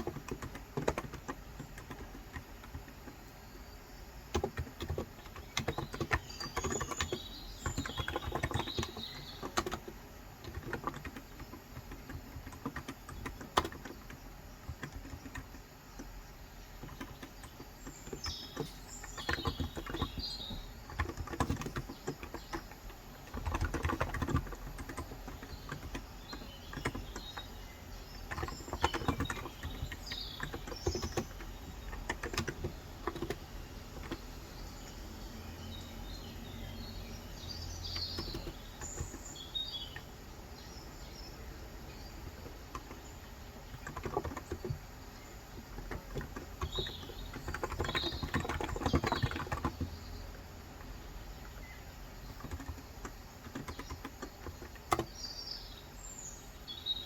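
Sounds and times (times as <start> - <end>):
typing on a keyboard: 0.0 - 3.5, 4.2 - 34.4, 37.3 - 40.2, 41.0 - 55.2
birds chirping: 0.0 - 57.0.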